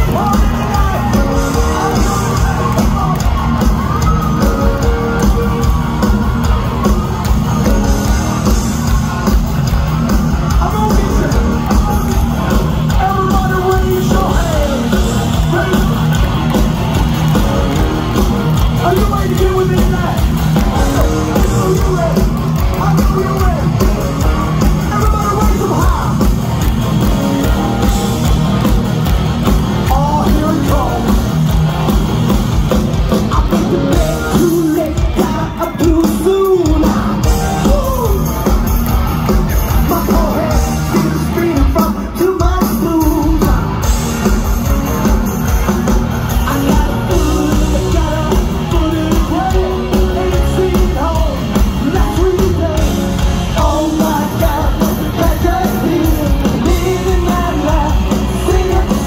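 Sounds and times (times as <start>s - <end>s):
hard rock band playing: 0.0s - 59.0s.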